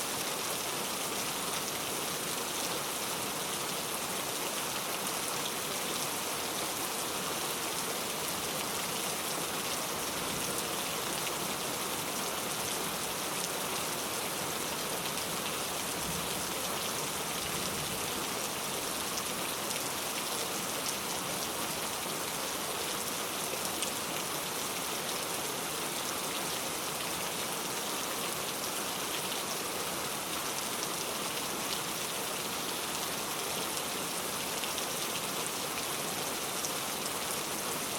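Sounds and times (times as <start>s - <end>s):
heavy rain on hard surfaces: 0.0s - 37.9s.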